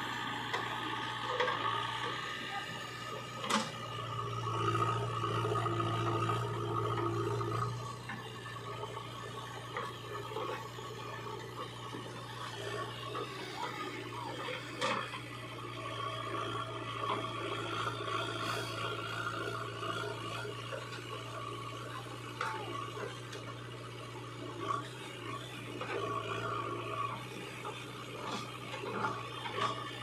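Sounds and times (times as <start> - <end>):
diesel engine under load: 0.0 - 30.0.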